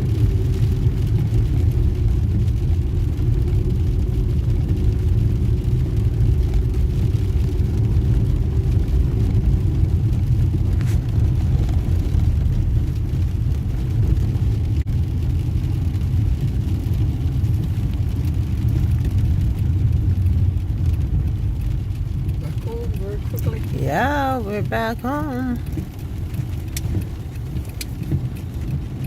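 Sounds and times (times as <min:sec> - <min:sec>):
car driving: 0:00.0 - 0:29.0.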